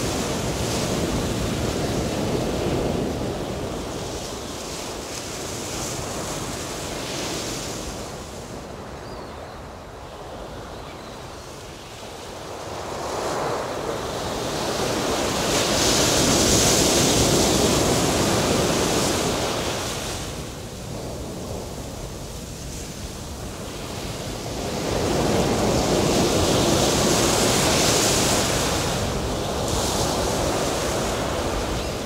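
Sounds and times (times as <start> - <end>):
ocean surf: 0.0 - 9.0, 9.6 - 32.0.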